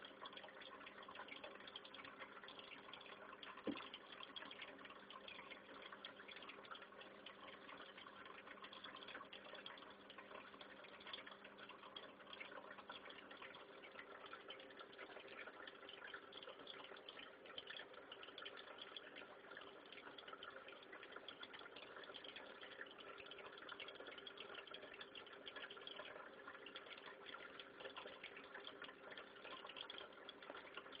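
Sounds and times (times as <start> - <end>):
low steady hum: 0.0 - 31.0
water rushing in aquarium: 0.0 - 31.0.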